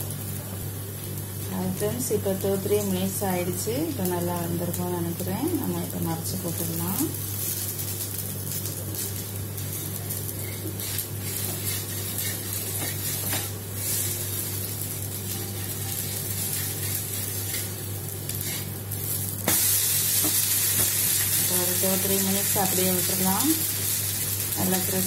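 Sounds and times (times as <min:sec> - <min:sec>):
pancake sizzling in oil: 0:00.2 - 0:25.0.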